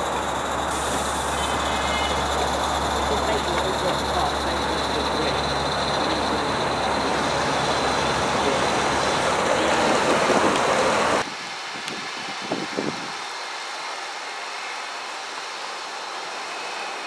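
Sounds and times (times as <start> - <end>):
model train rumbling and hissing: 0.0 - 17.0.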